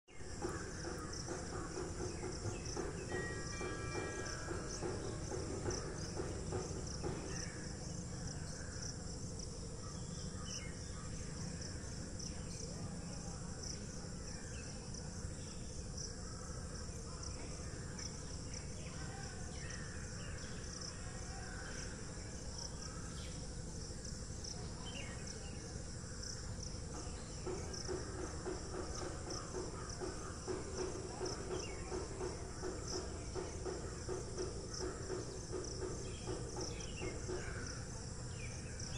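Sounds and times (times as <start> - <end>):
insects chirring: 0.1 - 38.9
low pulsing buzz: 0.1 - 38.9.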